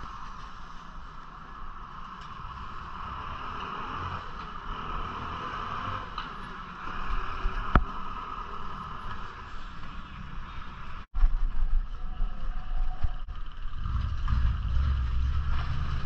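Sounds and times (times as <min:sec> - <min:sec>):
bicycle road and wind noise: 0:00.0 - 0:16.0
low vehicle rumble: 0:00.0 - 0:16.0.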